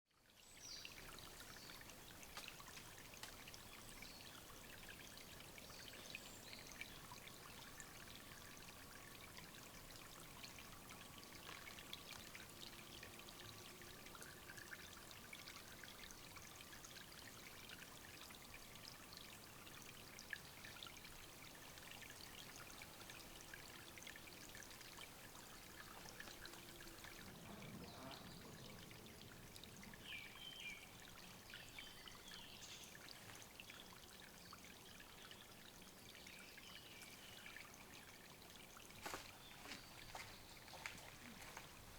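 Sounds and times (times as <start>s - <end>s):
water trickling and dripping: 0.1s - 41.9s.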